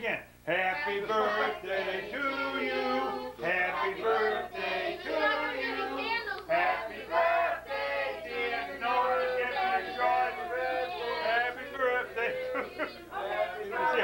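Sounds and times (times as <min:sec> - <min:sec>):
group of people singing: 0:00.5 - 0:14.0.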